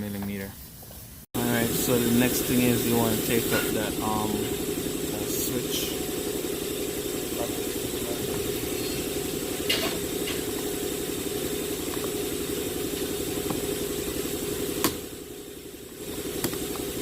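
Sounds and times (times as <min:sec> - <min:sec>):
engine idling: 0:01.4 - 0:17.0.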